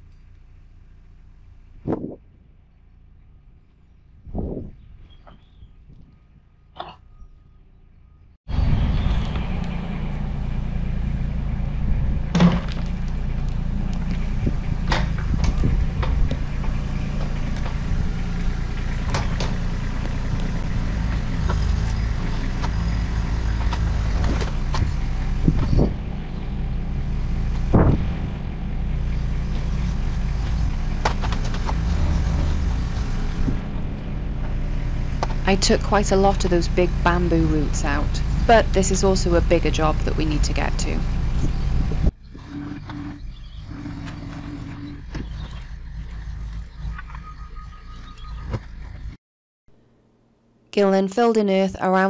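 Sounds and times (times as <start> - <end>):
excavator diesel engine: 0.0 - 49.2.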